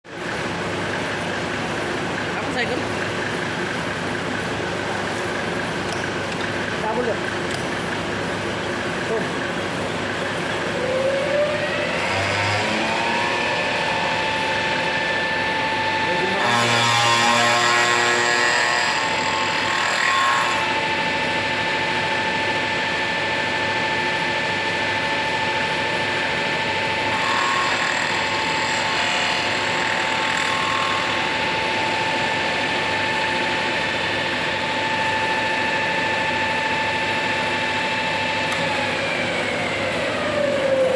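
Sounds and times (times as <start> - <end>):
milling machine motor whine: 0.1 - 40.9.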